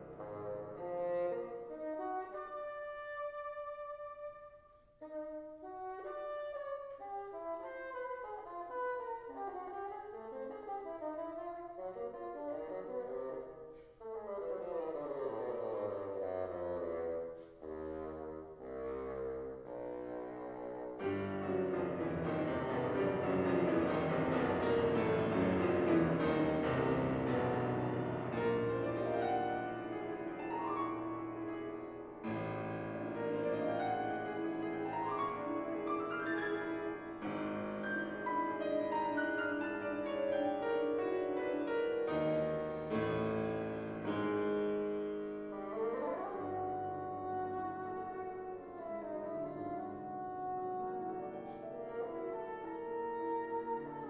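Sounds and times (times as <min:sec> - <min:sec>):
bassoon: 0:00.0 - 0:54.0
piano: 0:00.0 - 0:54.0.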